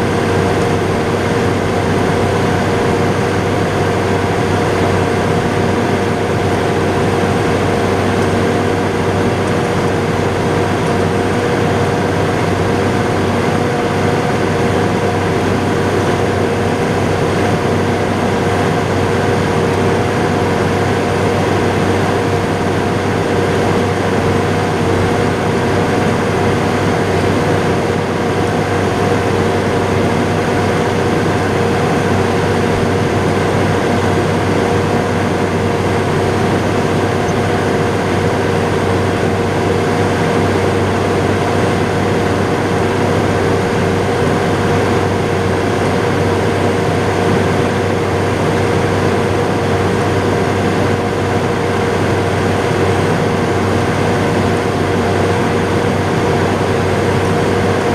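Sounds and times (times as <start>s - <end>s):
tractor engine droning: 0.0s - 57.9s.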